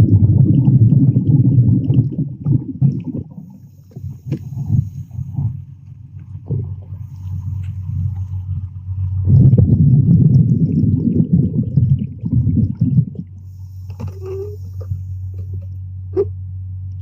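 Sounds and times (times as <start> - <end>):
rumbling surge of water: 0.0 - 15.5
low underwater hum: 0.0 - 17.0.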